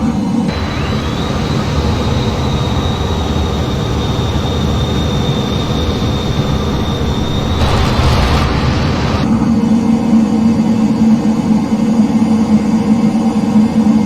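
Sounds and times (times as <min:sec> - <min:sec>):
jet engine rumble and whine: 0:00.0 - 0:14.0.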